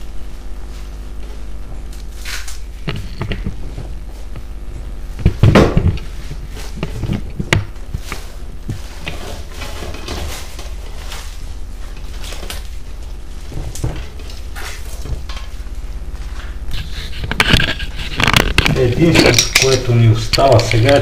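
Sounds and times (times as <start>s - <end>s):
low steady hum: 0.0s - 21.0s
cling film crinkling: 1.8s - 4.5s, 6.0s - 21.0s.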